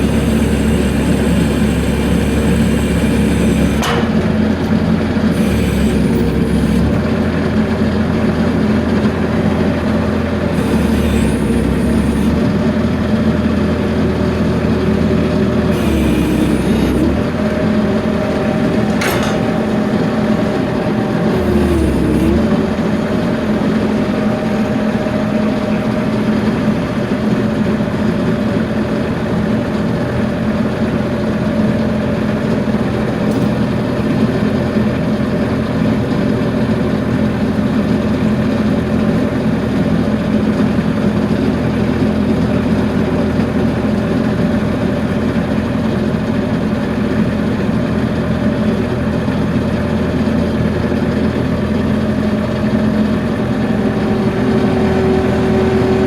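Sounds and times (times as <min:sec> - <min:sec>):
motor humming steadily: 0:00.0 - 0:56.0.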